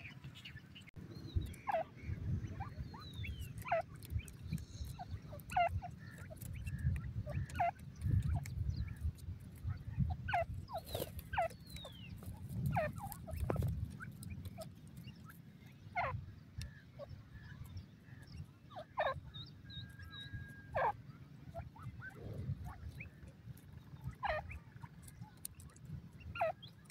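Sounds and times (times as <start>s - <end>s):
chicks peeping: 0.0s - 26.9s.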